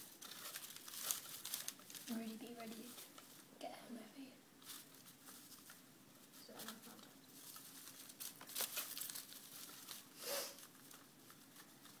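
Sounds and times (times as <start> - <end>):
mice rustling in paper bedding: 0.0 - 3.5, 4.6 - 12.0.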